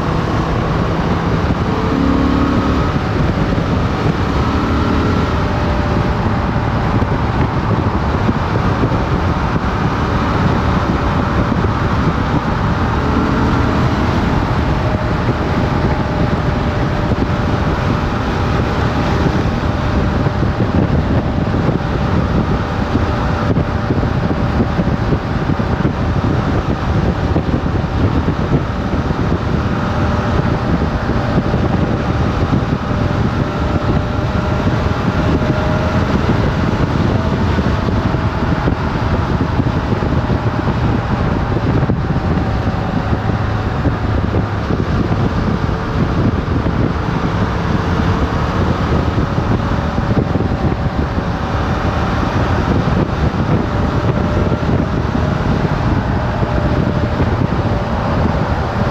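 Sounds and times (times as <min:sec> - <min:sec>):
motorcycle engine cruising: 0:00.0 - 0:58.9
wind rushing over microphone: 0:00.0 - 0:58.9.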